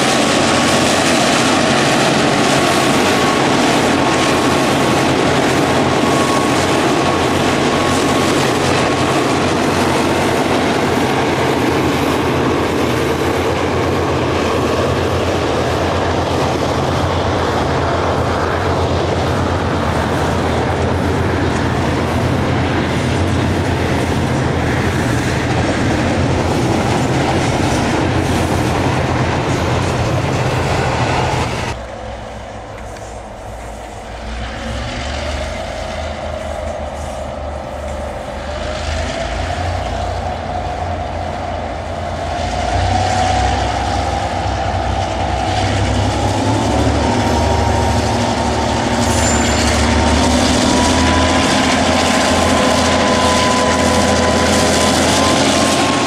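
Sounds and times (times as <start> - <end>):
diesel locomotive engines running: 0.0 - 56.0
thin steady whine: 0.0 - 56.0.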